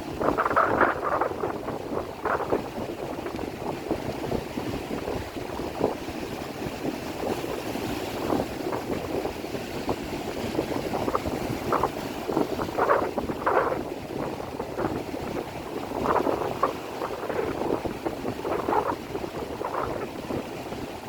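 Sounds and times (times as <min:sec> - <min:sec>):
rain and wind rushing: 0:00.0 - 0:21.0.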